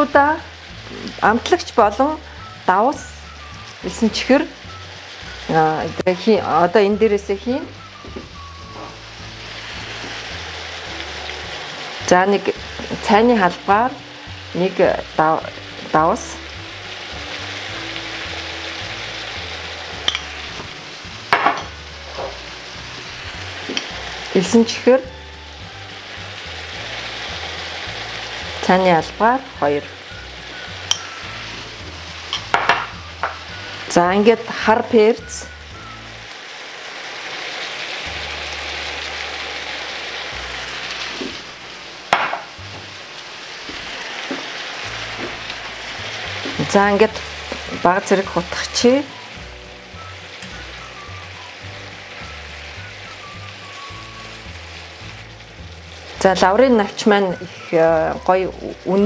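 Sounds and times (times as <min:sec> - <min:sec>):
soft background music: 0:00.0 - 0:59.0
vegetables sizzling in a frying pan: 0:00.0 - 0:59.0.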